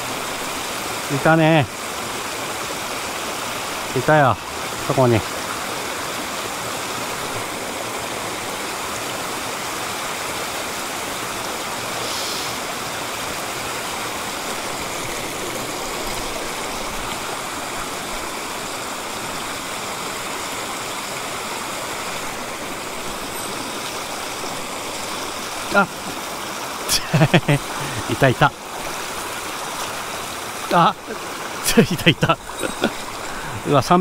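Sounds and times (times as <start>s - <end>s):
mountain stream flowing: 0.0s - 34.0s.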